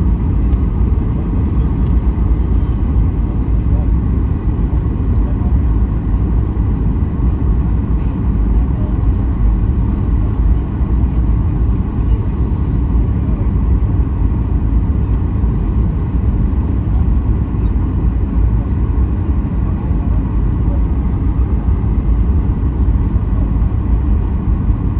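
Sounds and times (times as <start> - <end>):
airliner cabin engine rumble: 0.0 - 24.9.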